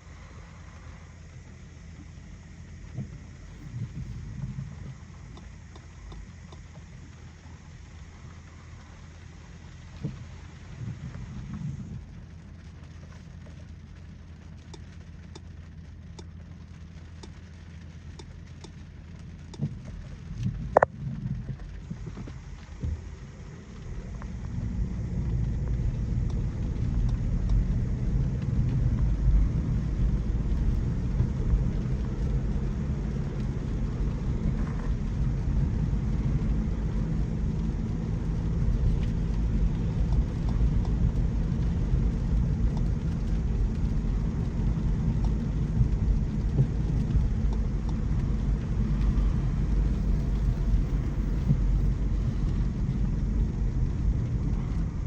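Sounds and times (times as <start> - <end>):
faint hiss: 0.0 - 55.0
road and tyre rumble: 0.0 - 55.0.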